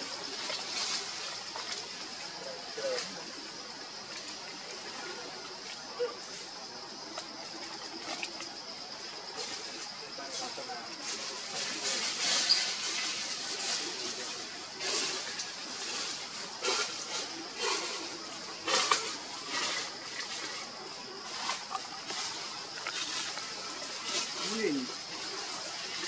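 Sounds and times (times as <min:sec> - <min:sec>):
crackles and rustles: 0:00.0 - 0:26.0.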